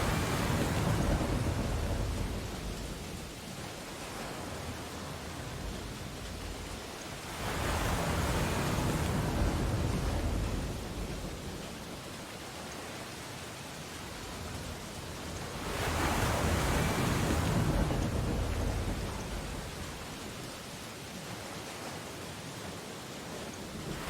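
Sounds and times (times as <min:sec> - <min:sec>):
ocean waves on a beach: 0:00.0 - 0:24.0.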